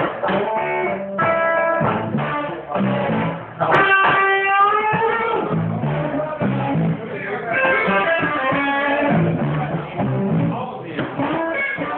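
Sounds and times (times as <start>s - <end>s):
electric guitar: 0.0s - 11.9s
live band playing: 0.0s - 11.9s.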